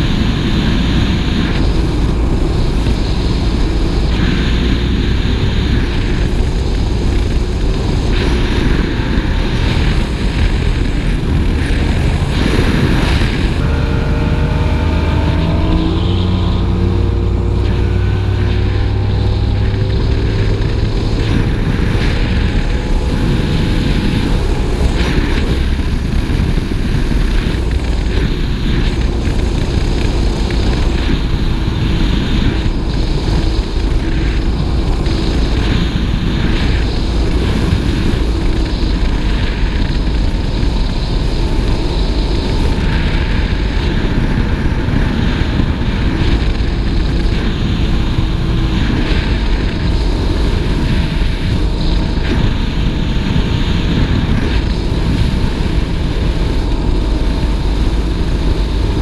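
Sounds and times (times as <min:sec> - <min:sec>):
speedboat engine droning: 0:00.0 - 0:59.0
wind: 0:00.0 - 0:59.0.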